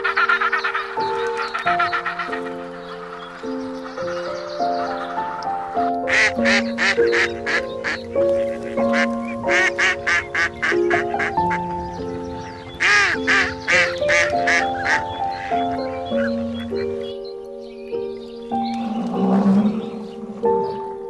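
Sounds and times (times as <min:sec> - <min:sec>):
background music stepping melody: 0:00.0 - 0:21.0.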